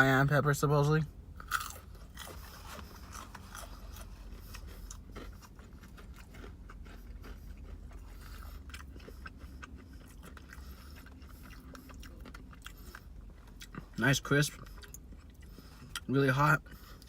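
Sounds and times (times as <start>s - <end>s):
low steady hum: 0.0s - 17.0s
crunching and chewing: 1.4s - 17.0s.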